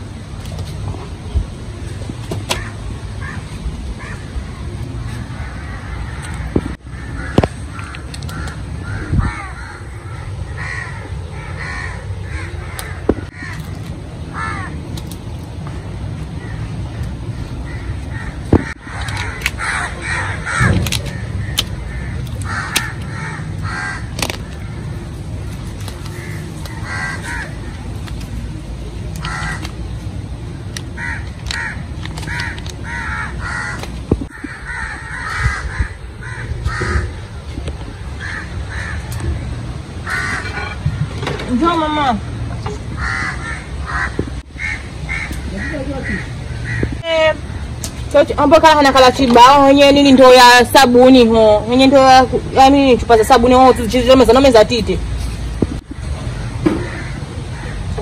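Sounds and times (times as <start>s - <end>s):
low background noise: 0.0s - 58.0s.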